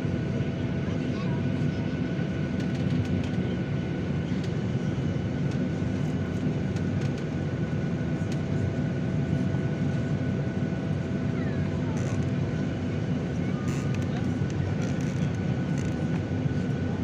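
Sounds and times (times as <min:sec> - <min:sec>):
faint steady engine whine: 0:00.0 - 0:17.0
jet engines rumbling in cabin: 0:00.0 - 0:17.0.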